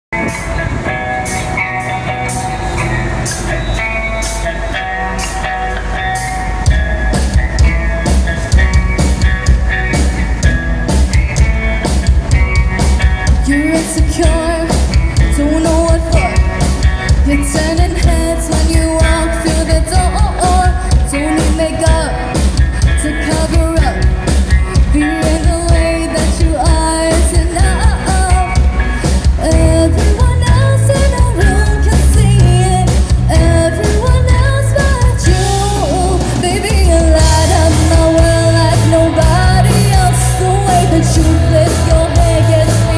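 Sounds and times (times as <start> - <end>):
drum beat and bass: 0.1 - 42.9
person singing rock-pop song: 0.2 - 42.9.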